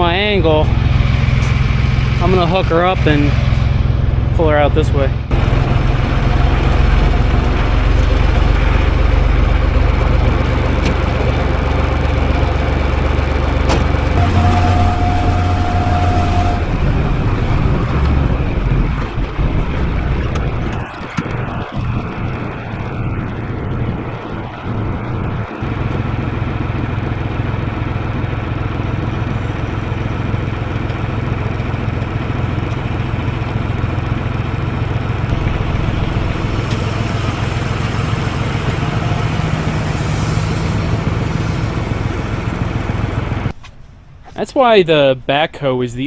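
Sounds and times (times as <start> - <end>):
diesel engine running under load: 0.0 - 44.2.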